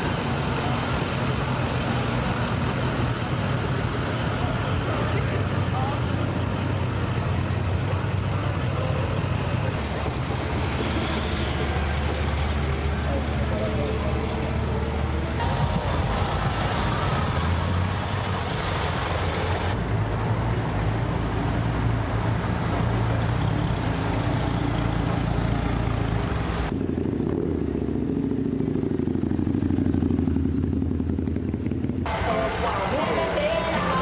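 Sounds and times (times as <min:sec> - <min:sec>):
car engines passing by: 0:00.0 - 0:34.0.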